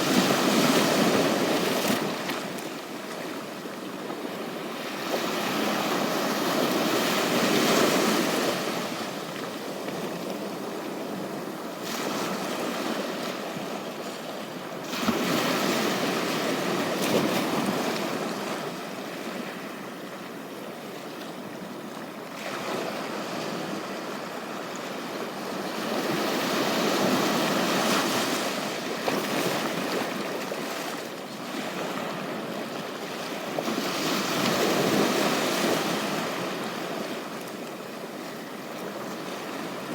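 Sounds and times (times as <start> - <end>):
sea waves breaking on beach: 0.0 - 19.8, 22.3 - 39.9.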